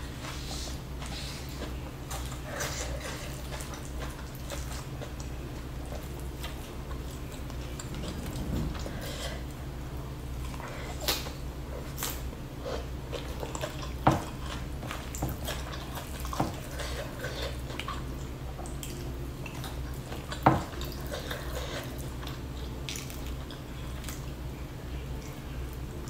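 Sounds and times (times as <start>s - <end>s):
low steady hum: 0.0s - 26.0s
person chewing: 0.1s - 24.4s.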